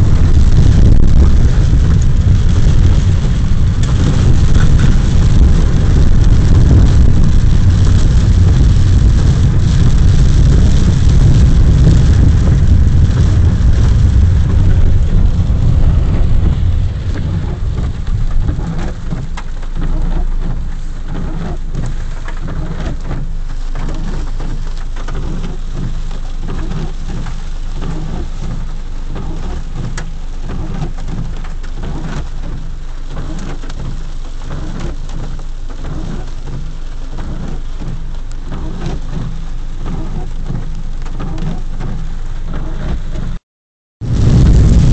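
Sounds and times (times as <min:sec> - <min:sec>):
heavy rain falling: 0:00.0 - 0:43.4, 0:44.0 - 0:44.9.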